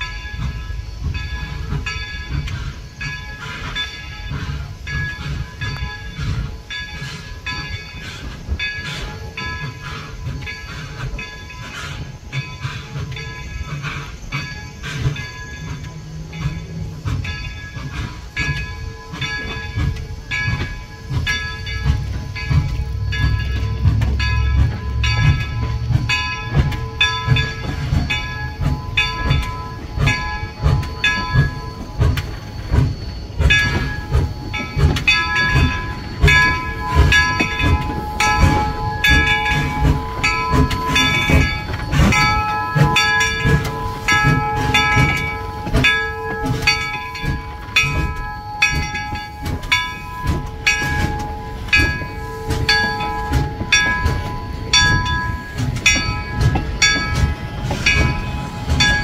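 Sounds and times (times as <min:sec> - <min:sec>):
locomotive bell ringing: 0:00.0 - 0:59.0
locomotive running rumble: 0:00.0 - 0:59.0.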